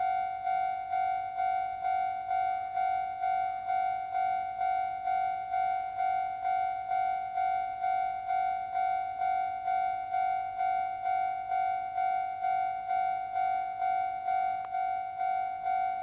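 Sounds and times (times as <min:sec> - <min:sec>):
level crossing alarm ringing: 0:00.0 - 0:16.0.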